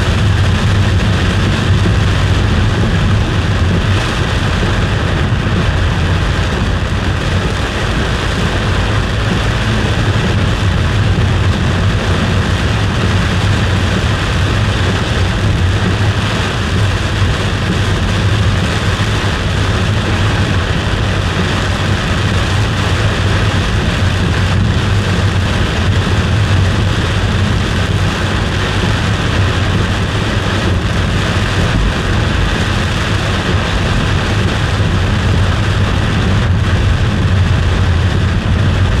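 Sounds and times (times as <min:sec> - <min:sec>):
car cabin road noise: 0:00.0 - 0:39.0.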